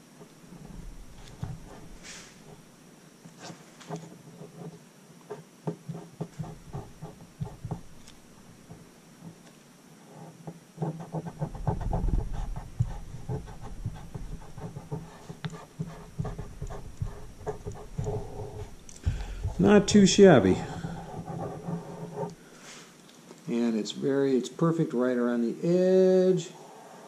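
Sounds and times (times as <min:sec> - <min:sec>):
hand rubbing and handling noise: 0:00.0 - 0:23.7.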